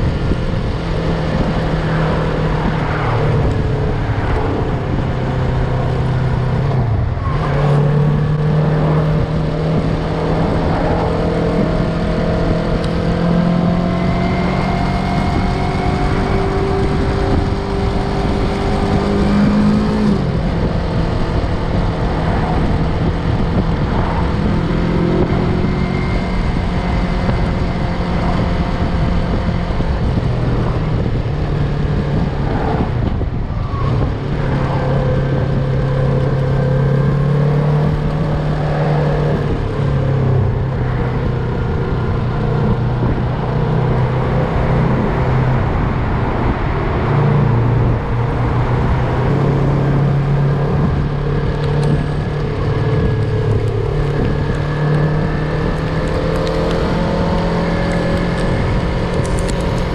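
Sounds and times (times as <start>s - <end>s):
steady rush of noise: 0.0s - 59.9s.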